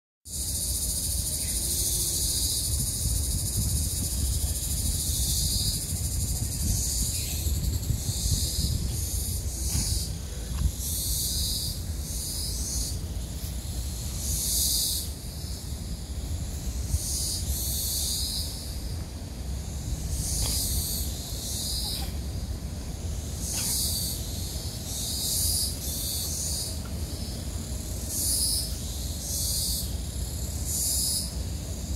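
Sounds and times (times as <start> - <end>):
cicadas chorus: 0.2 - 31.9
low steady rumble: 0.8 - 31.9.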